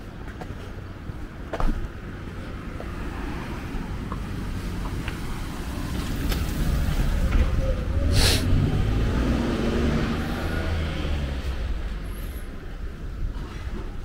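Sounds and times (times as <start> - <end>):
vehicle engine rumble passing by: 2.1 - 14.0.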